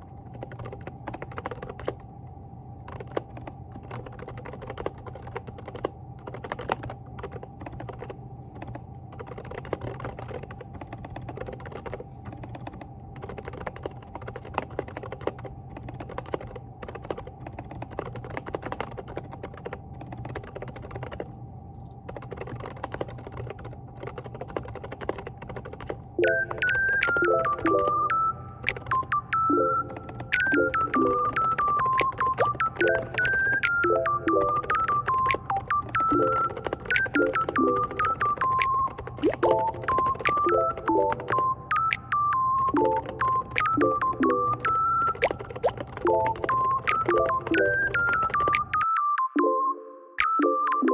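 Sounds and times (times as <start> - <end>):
steady low hum: 0.0 - 47.4.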